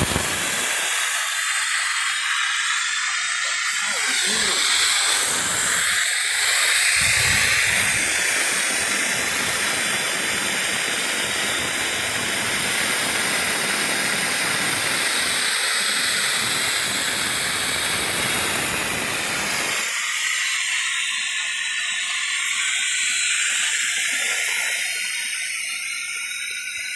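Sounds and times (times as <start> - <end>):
pneumatic oil extractor hissing: 0.0 - 26.9.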